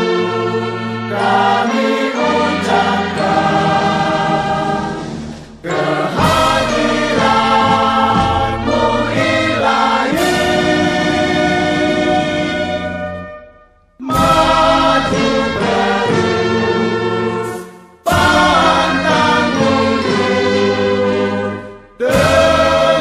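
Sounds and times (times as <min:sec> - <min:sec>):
choir singing over music: 0:00.0 - 0:13.4, 0:14.0 - 0:23.0.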